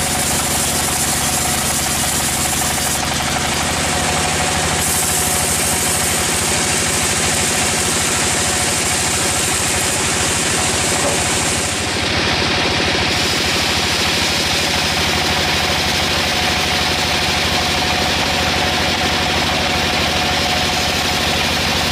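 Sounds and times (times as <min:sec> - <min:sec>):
blade sawing through log: 0:00.0 - 0:12.1, 0:12.8 - 0:21.9
sawmill engine humming: 0:00.0 - 0:21.9.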